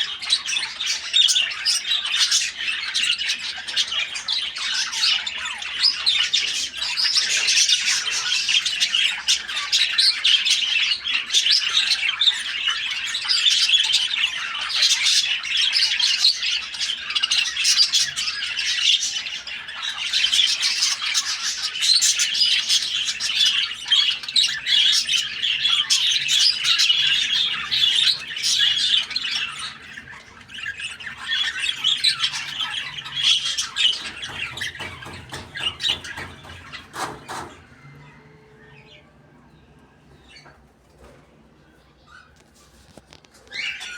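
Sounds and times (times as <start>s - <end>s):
lovebirds squawking and chattering: 0.0s - 43.9s.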